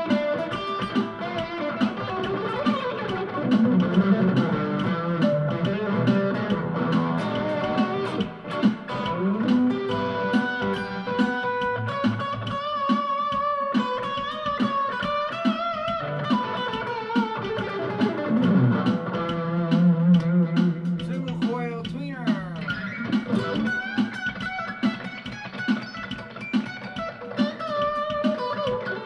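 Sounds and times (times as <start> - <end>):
electric guitar lead lines: 0.0 - 29.0.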